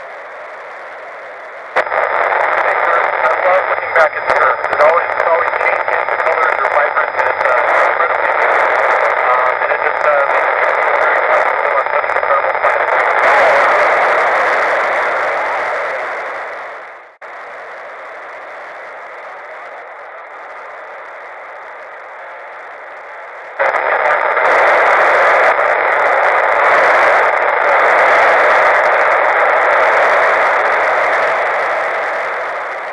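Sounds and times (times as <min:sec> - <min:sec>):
radio receiver static hiss: 0:00.0 - 0:32.9.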